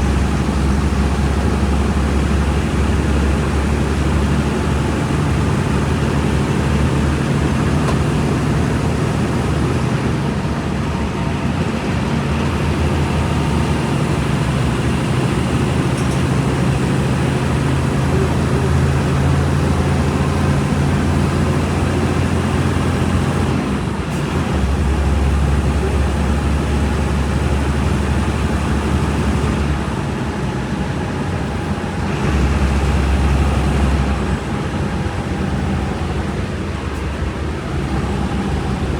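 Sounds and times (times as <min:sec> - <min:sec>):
bus engine humming: 0:00.0 - 0:38.9
road noise: 0:00.0 - 0:38.9.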